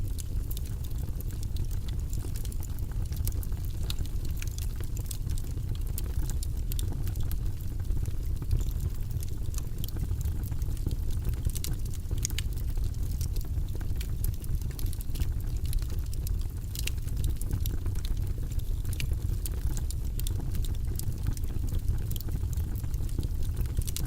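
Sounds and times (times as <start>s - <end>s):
burning logs crackling: 0.0s - 24.0s
fire low rumble: 0.0s - 24.0s.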